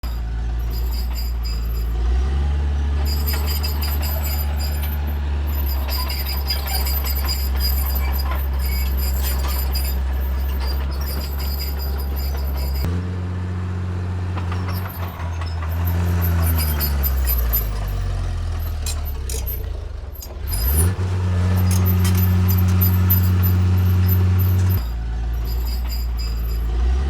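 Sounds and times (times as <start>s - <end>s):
high squeals and rattles: 0.0s - 12.9s, 14.4s - 27.0s
diesel machinery engine drone: 0.0s - 27.0s.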